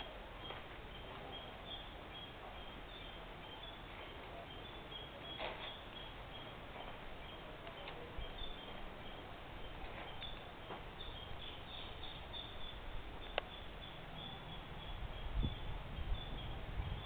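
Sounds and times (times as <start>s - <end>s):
birds chirping: 0.0s - 17.0s
steady outdoor hiss: 0.0s - 17.0s.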